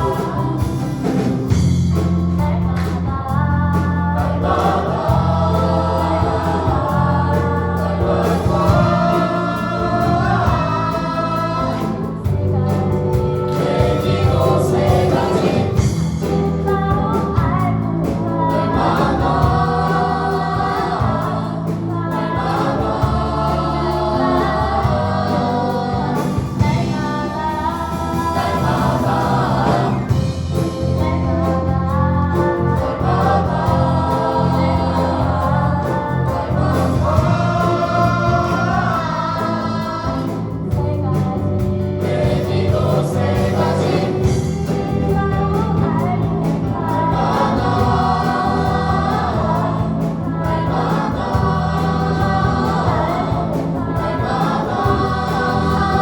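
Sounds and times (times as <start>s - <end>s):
choir singing gospel song: 0.0s - 56.0s
instrumental accompaniment: 0.0s - 56.0s.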